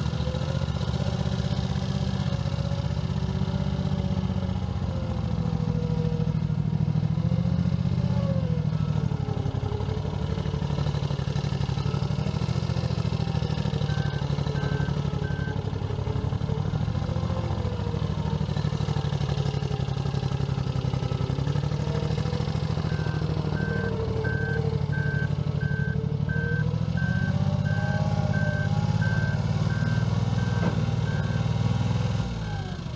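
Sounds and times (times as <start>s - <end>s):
skid steer loader engine running: 0.0s - 32.9s.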